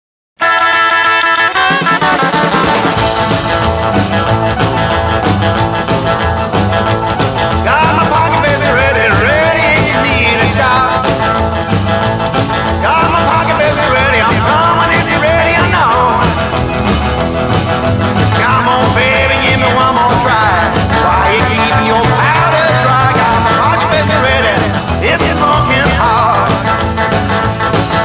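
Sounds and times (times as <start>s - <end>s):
rock and roll band playing: 0.4s - 28.0s
bending lead melody line: 0.5s - 28.0s.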